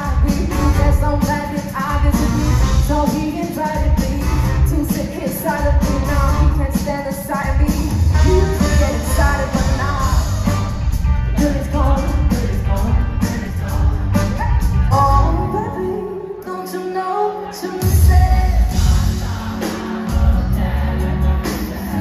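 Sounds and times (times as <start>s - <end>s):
woman singing: 0.0s - 10.4s, 11.4s - 18.9s
live band playing: 0.0s - 22.0s.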